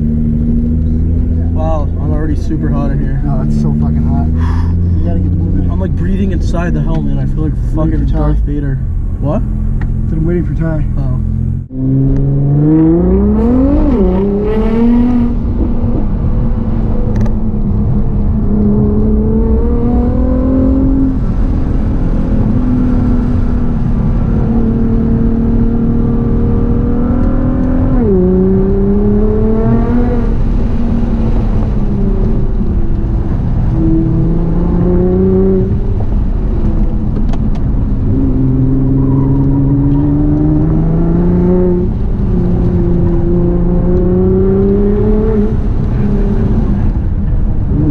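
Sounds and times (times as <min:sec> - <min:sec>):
car engine accelerating and shifting: 0:00.0 - 0:47.9.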